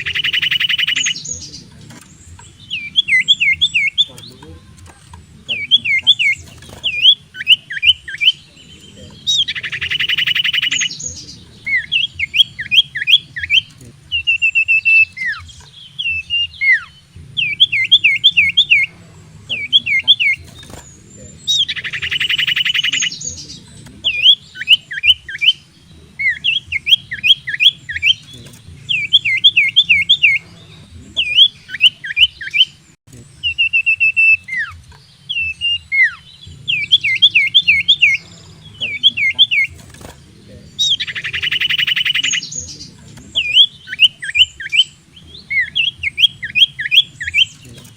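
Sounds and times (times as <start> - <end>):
bird whistled song: 0.0 - 47.9
buzzy bird rasp: 0.0 - 47.9.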